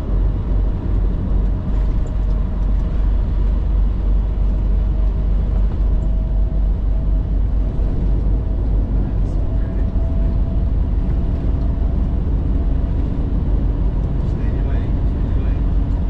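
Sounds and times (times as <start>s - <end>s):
truck diesel engine rumble: 0.0s - 16.0s.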